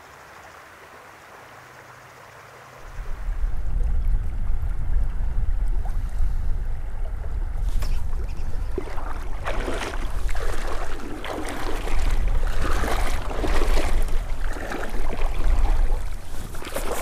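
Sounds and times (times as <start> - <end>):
river current rushing and gurgling: 0.0 - 17.0.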